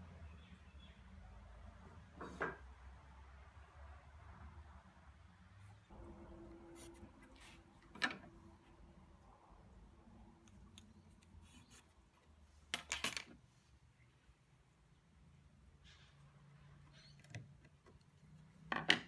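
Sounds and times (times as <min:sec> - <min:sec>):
low room noise: 0:00.0 - 0:19.0.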